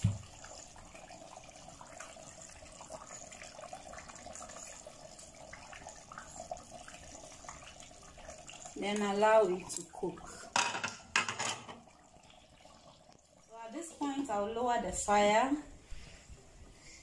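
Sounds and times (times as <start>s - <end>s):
stew simmering with bubbling pops: 0.0s - 14.4s.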